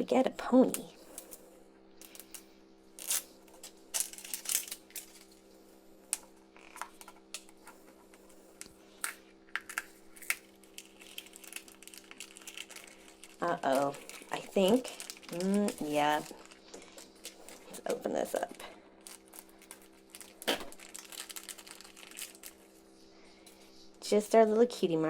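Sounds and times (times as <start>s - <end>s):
faint steady hum: 0.0s - 25.0s
plastic crinkling: 2.0s - 5.5s, 6.1s - 22.9s.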